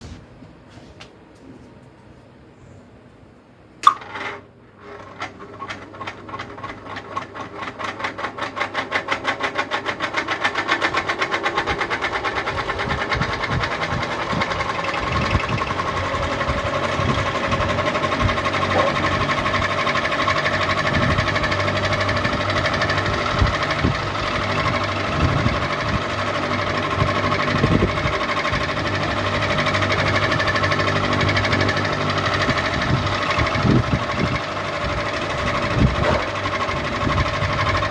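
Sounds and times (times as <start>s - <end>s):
fan motor hum: 0.0s - 37.9s.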